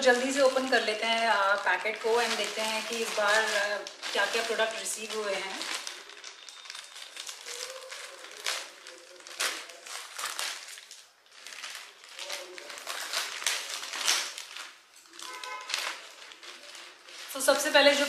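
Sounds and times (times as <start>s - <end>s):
plastic mailer bag crinkling: 0.0s - 18.0s.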